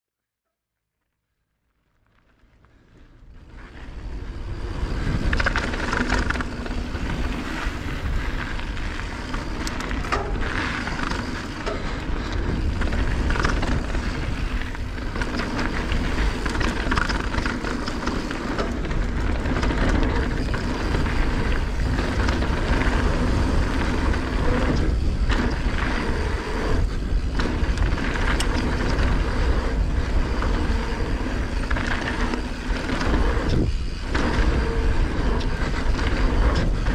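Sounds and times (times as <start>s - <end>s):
bike rattling over bumps: 1.7s - 36.9s
tyres on gravel and dirt: 1.7s - 36.9s
wind rumble on microphone: 3.0s - 36.9s.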